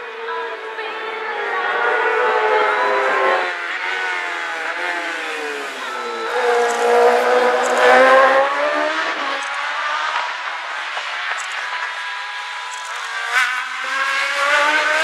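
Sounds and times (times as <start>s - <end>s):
racing engines at full throttle: 0.0s - 15.0s.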